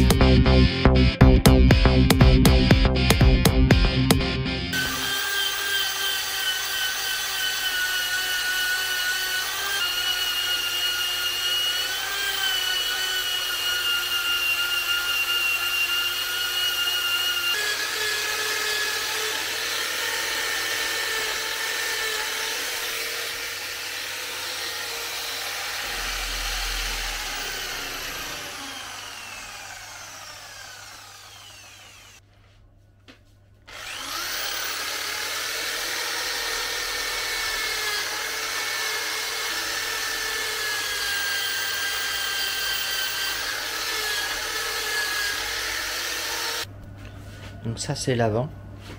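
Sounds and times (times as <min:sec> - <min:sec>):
electric drill wire brush scouring: 0:04.8 - 0:32.2, 0:33.7 - 0:46.7.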